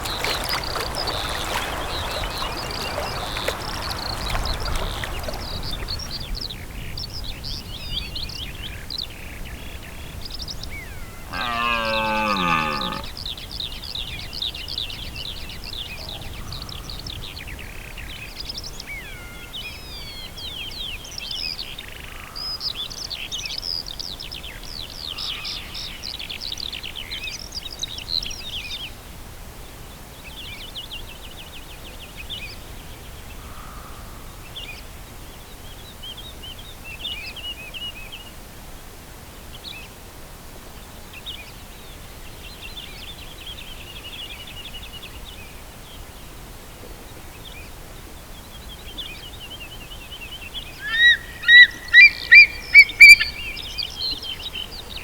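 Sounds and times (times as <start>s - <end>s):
wild birds singing: 0.0s - 28.7s, 30.4s - 38.2s, 46.9s - 55.0s.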